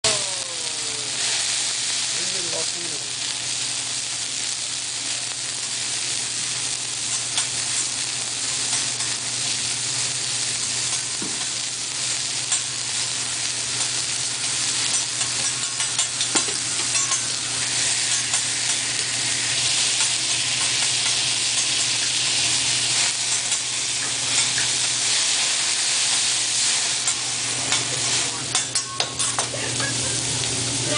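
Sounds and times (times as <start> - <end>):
food sizzling on griddle: 0.0 - 30.9.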